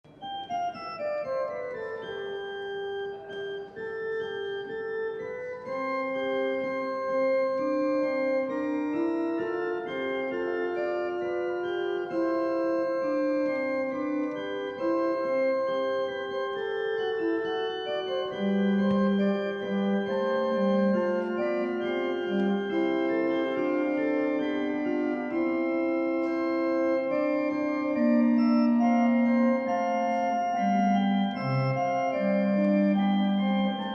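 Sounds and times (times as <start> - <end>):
organ playing held chords: 0.0 - 33.9.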